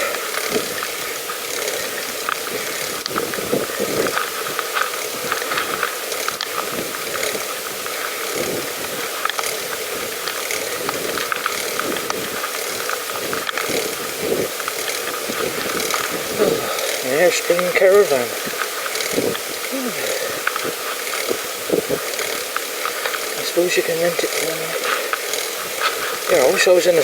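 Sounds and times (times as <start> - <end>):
bicycle mechanism clicking: 0.0 - 27.0.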